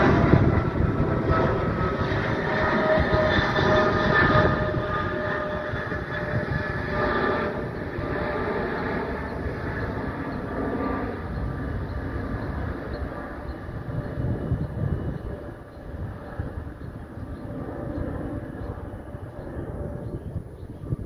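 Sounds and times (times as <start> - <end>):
jet engine rumble: 0.0 - 21.0
jet engine whine: 0.0 - 21.0.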